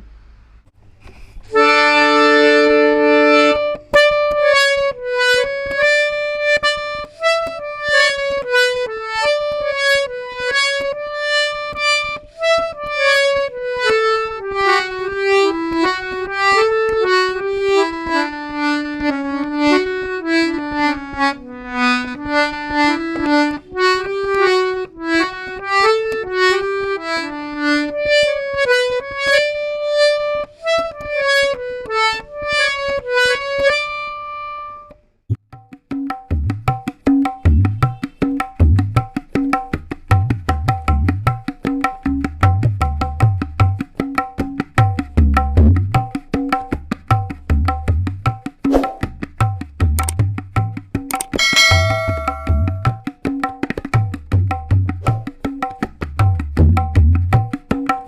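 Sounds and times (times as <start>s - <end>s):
harmonium playing: 1.5s - 35.0s, 36.0s - 58.0s.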